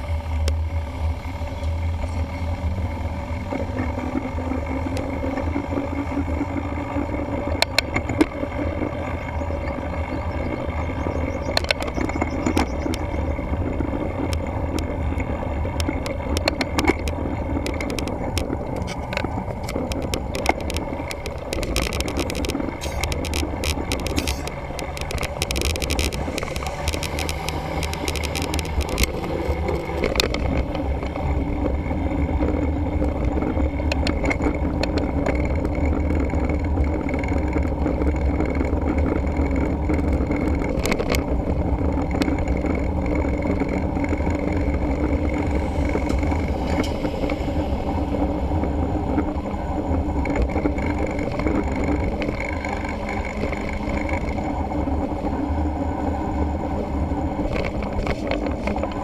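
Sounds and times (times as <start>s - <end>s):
tyre and road rumble: 0.0s - 59.0s
wind buffeting microphone: 5.0s - 59.0s
rattling clicks: 7.5s - 55.3s, 57.4s - 59.0s.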